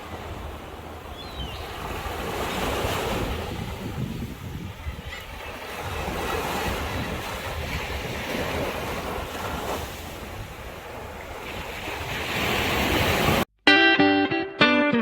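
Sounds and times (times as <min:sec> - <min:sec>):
wind buffeting microphone: 0:00.0 - 0:13.4
sea waves washing onto shore: 0:00.0 - 0:13.5.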